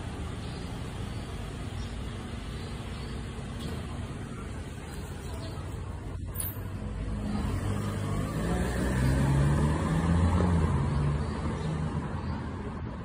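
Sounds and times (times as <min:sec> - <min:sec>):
motor vehicle engine rumble: 0:00.0 - 0:13.0.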